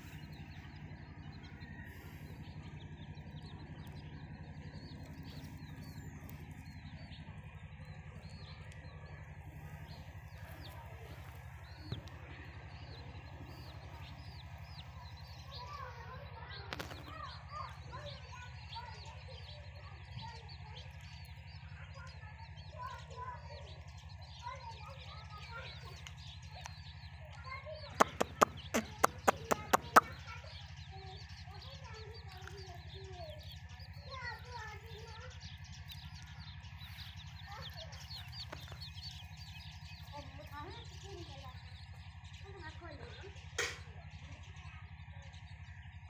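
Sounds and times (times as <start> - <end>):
baby chicks peeping: 0.0 - 46.0.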